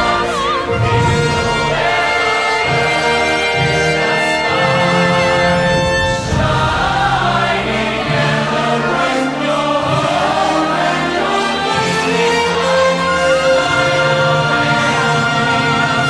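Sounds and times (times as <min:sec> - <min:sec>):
choir singing with orchestra: 0:00.0 - 0:16.0.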